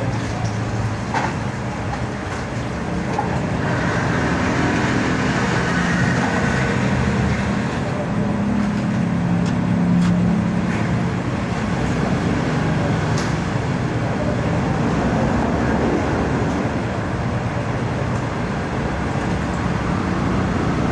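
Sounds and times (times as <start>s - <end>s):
vehicle engine and road rumble: 0.0s - 20.9s.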